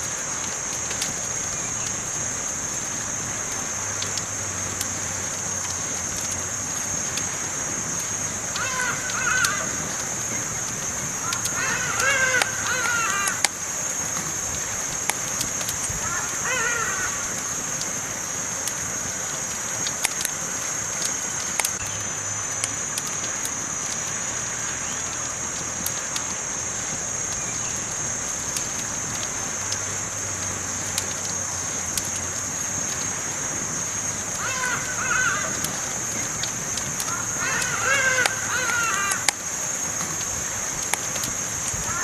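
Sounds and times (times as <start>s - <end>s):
campfire crackling: 0.0s - 42.0s
high-pitched hiss: 0.0s - 42.0s.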